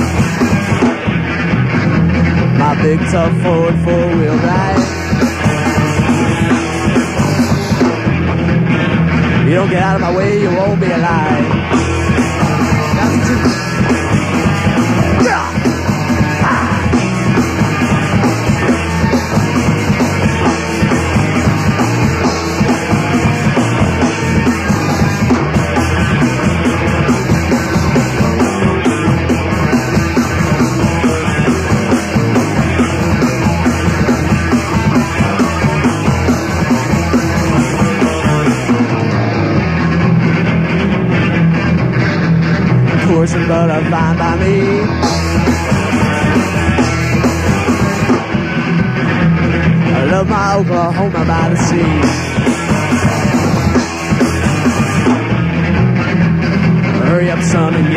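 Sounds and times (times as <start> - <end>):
live punk rock band: 0.0 - 57.9.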